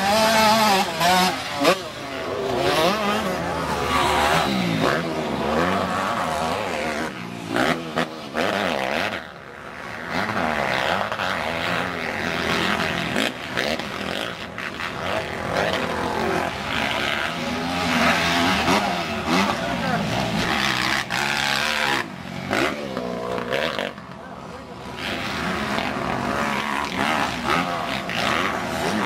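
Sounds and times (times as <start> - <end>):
motocross bikes revving past: 0.0 - 29.0.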